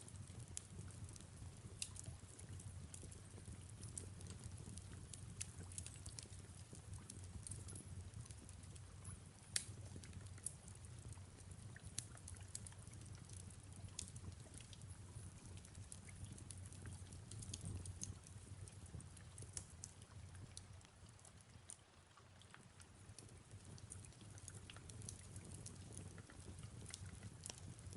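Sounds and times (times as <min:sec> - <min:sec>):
fireplace crackling and popping: 0:00.0 - 0:27.9
soft rain hiss: 0:00.0 - 0:27.9.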